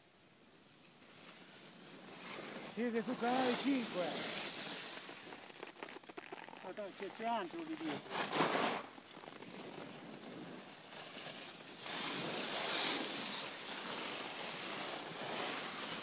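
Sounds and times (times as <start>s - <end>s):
skis scraping over packed snow: 0.6s - 16.0s.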